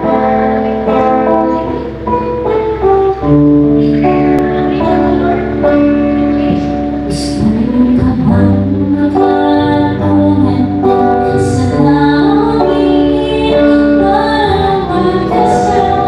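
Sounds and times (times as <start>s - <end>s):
girl singing: 0.0s - 2.6s, 3.6s - 16.0s
held instrumental chords: 0.0s - 16.0s.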